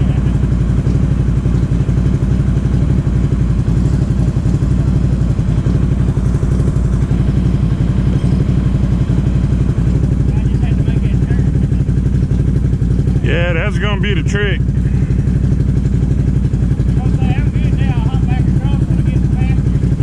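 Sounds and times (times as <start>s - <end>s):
atv engine running at low revs: 0.0s - 20.0s.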